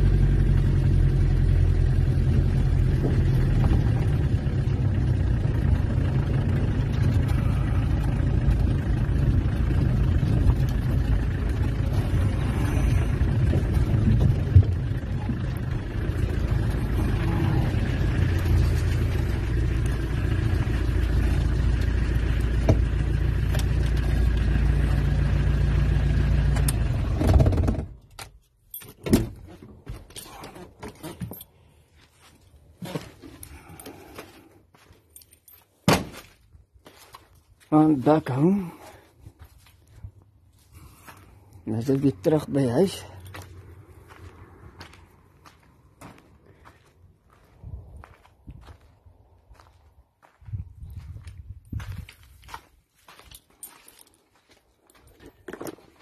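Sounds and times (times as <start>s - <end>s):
diesel engine running: 0.0s - 35.6s, 36.8s - 56.0s.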